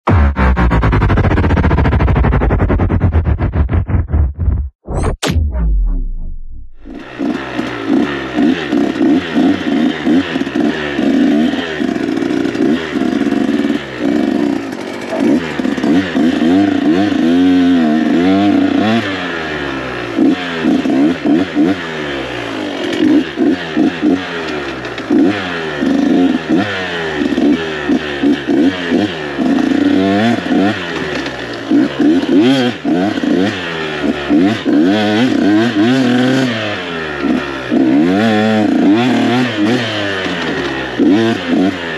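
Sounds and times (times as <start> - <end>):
dirt bike engine revving: 0.1 - 4.7, 6.8 - 41.9.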